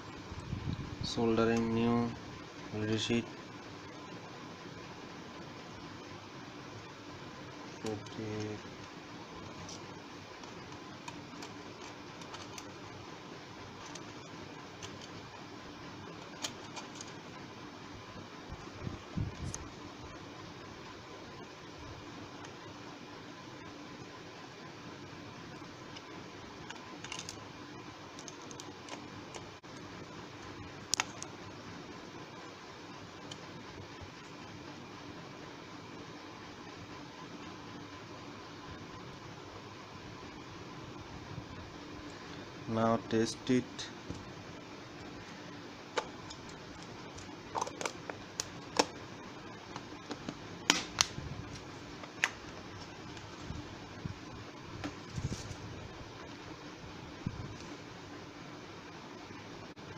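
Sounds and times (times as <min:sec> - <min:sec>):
faint steady hiss: 0:00.0 - 0:59.9
faint steady hum: 0:00.0 - 0:59.9.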